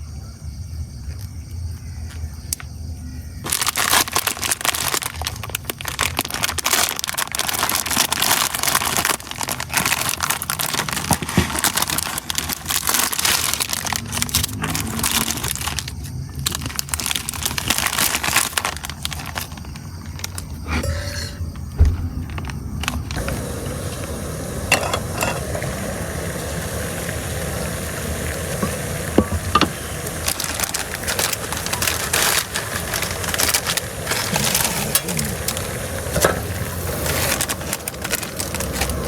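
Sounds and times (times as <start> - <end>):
plastic packaging crinkling: 3.4 - 39.0.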